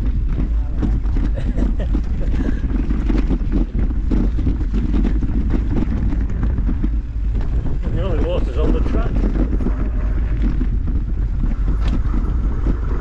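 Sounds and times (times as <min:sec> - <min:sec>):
bike rattling on rocky trail: 0:00.0 - 0:13.0
wind buffeting microphone: 0:00.0 - 0:13.0.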